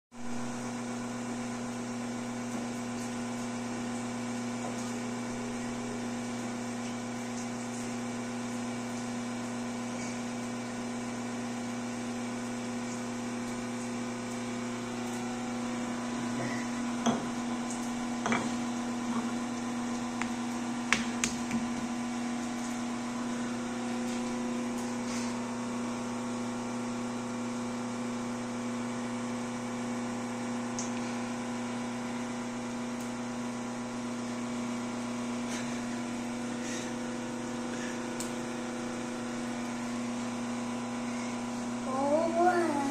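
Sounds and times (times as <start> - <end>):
electrical appliance hum: 0.2 - 42.9.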